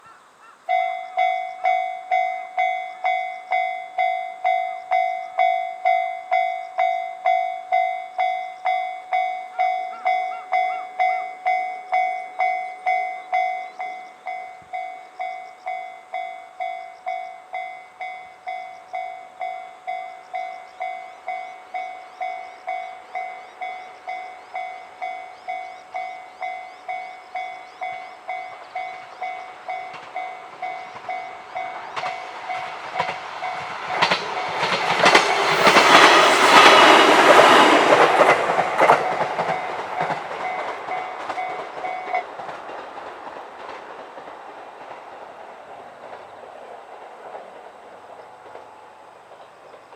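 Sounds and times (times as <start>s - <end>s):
level crossing warning bell: 0.7s - 42.4s.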